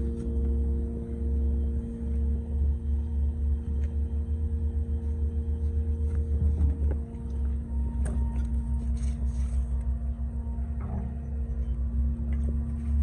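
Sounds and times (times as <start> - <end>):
pump engine rumbling: 0.0 - 13.0.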